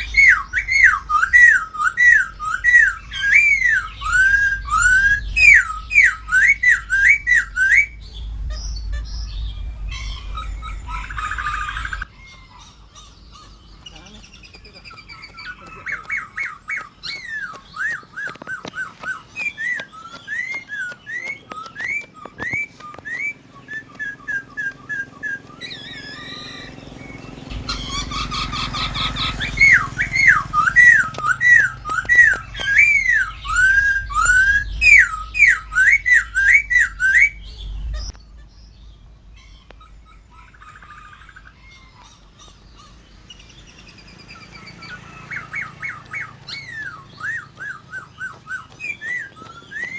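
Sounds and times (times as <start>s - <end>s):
low rumble: 0.0s - 15.2s, 22.8s - 48.7s
bird whistling song: 0.0s - 49.9s.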